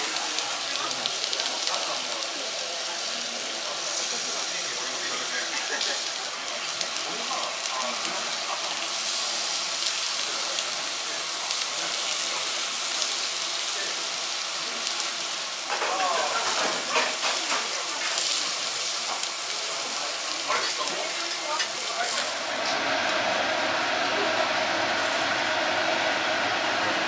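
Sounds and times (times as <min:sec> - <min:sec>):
voices in the background: 0:00.0 - 0:25.7
meat sizzling on a grill: 0:00.0 - 0:27.0.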